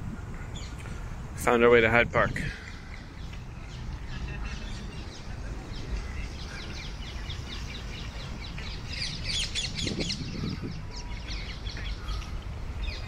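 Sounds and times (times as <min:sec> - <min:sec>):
steady low rumble: 0:00.0 - 0:13.0
birds chirping: 0:00.1 - 0:13.0.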